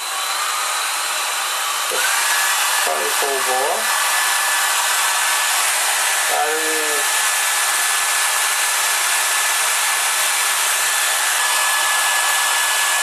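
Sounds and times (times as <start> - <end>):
hairdryer blowing: 0.0 - 13.0.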